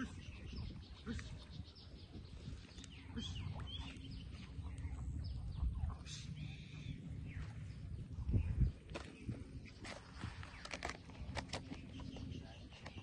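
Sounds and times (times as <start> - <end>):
birds chirping: 0.0 - 13.0
low outdoor rumble: 0.0 - 13.0.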